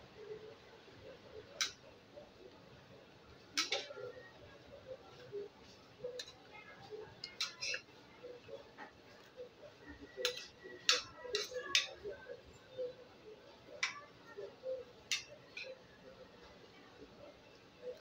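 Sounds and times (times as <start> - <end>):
faint murmur: 0.0 - 18.0.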